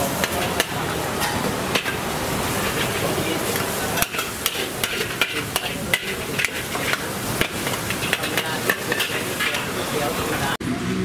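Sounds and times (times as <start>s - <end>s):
metal spatula clanking on wok: 0.0s - 9.9s
steady frying hiss: 0.0s - 10.6s.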